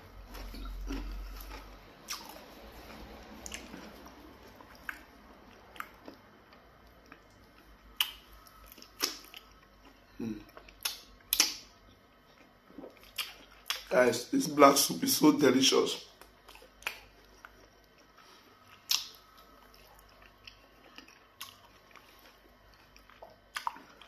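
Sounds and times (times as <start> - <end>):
chewing and wet mouth smacks: 0.2 - 13.9, 16.1 - 24.0.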